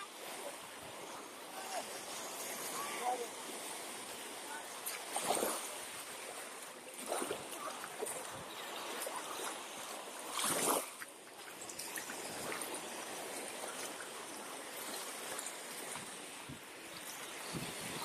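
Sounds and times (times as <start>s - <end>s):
surf rushing on beach: 0.0s - 18.0s
wave breaking: 0.0s - 18.0s.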